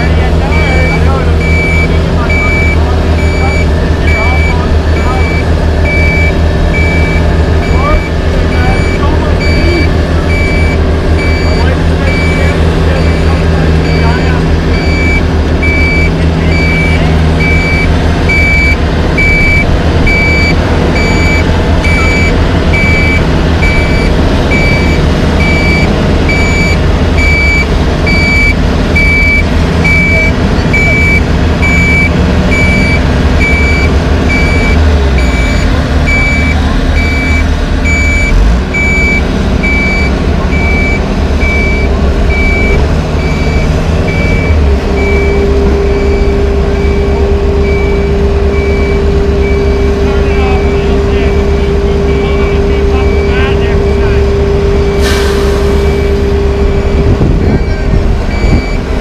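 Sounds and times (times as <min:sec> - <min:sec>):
backup alarm beeping: 0:00.0 - 0:58.9
diesel machinery running: 0:00.0 - 0:59.0.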